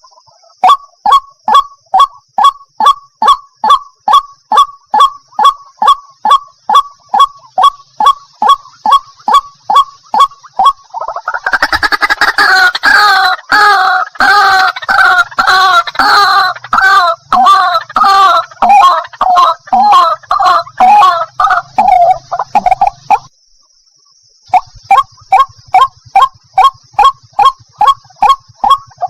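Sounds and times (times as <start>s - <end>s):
waterhen calling: 0.0s - 23.3s, 24.5s - 29.0s.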